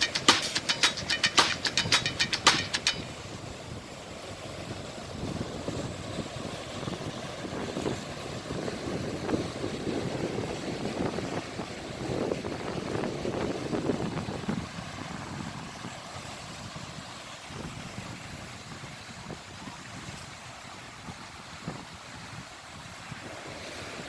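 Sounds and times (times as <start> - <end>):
ocean surf washing onto shore: 0.0 - 24.0.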